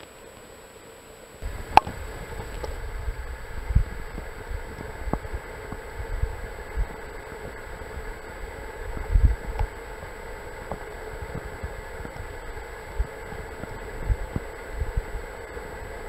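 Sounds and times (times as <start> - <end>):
muffled underwater stream rumble: 1.4 - 16.0.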